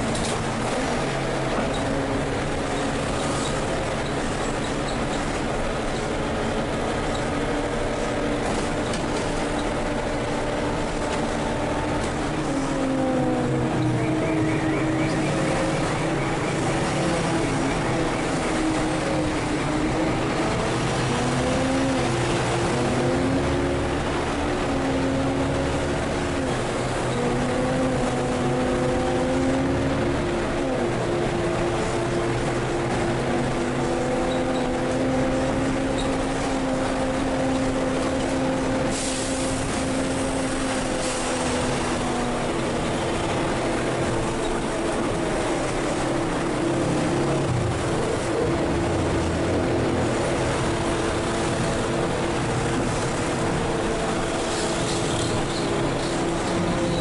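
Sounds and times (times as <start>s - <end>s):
bus diesel engine droning: 0.0s - 57.0s
road and cabin noise: 0.0s - 57.0s.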